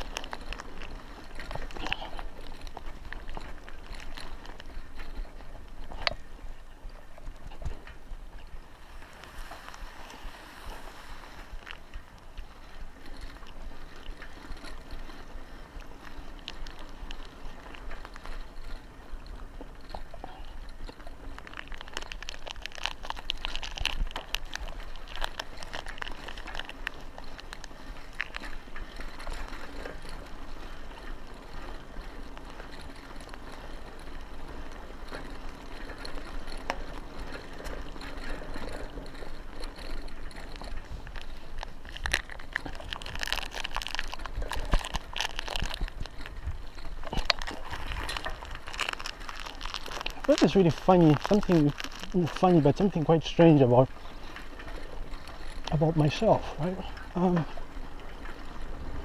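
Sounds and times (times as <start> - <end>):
bicycle tyres on dirt: 0.0 - 59.0
crackling and clicking: 0.0 - 59.0.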